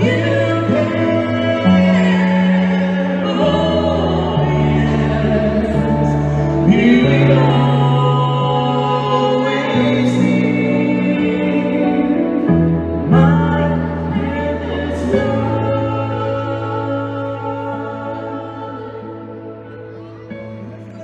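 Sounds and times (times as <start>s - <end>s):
man and woman singing: 0.0s - 20.7s
long held bass notes: 0.0s - 21.0s.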